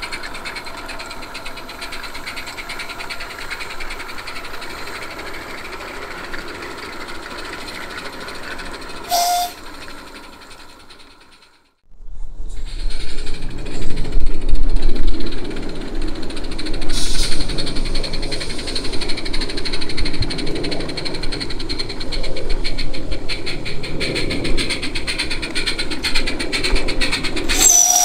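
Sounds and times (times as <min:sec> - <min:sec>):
steam hissing: 0:00.0 - 0:11.6, 0:12.5 - 0:28.0
small steam locomotive chuffing: 0:00.0 - 0:28.0.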